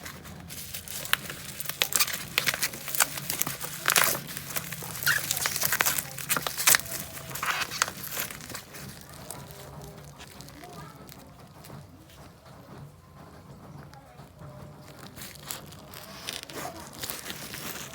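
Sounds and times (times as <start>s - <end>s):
sharp packaging crackles: 0.0s - 12.6s, 13.8s - 17.9s
plastic and paper wrapping crinkling: 0.0s - 17.9s.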